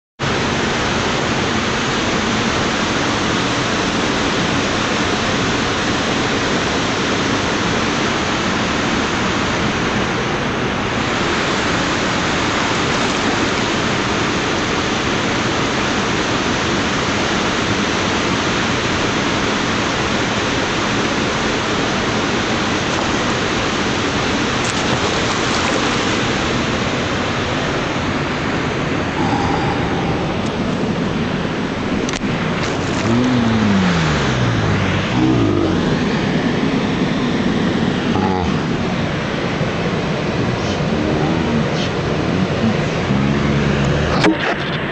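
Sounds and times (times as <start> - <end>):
river water rushing over weir: 0.2 - 44.9.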